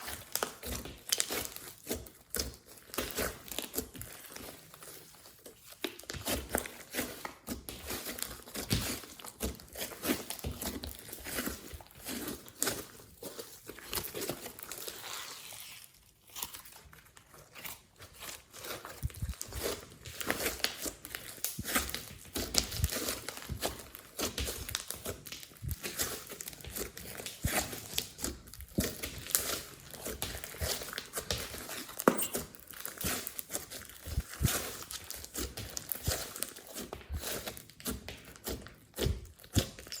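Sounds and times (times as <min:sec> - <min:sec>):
hands squishing sticky slime: 0:00.0 - 0:40.0.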